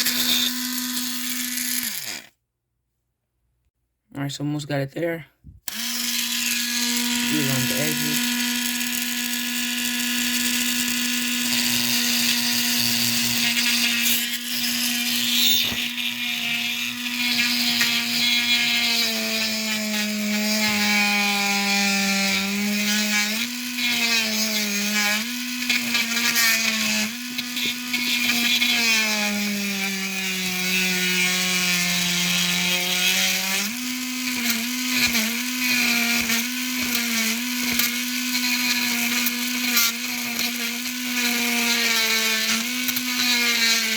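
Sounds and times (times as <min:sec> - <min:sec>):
small electric drill running: 0:00.0 - 0:02.3, 0:05.7 - 0:43.9.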